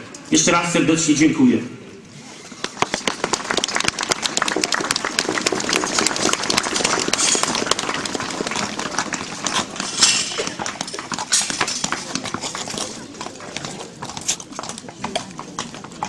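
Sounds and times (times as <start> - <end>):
horse hooves on pavement: 2.6 - 16.0.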